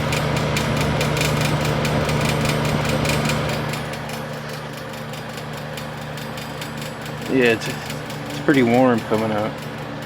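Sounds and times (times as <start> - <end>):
fan motor hum: 0.0 - 10.0.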